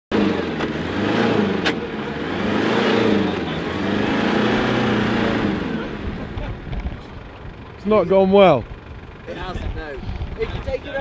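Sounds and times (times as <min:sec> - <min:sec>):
truck engine revving: 0:00.1 - 0:11.0.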